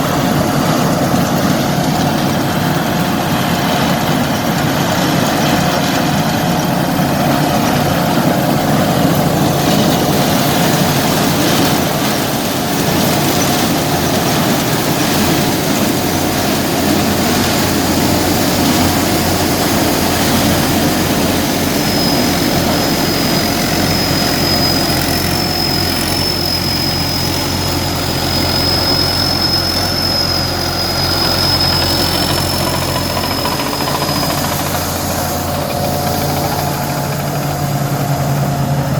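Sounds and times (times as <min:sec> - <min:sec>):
corn sheller running: 0:00.0 - 0:38.9
thin high whine: 0:05.7 - 0:38.9.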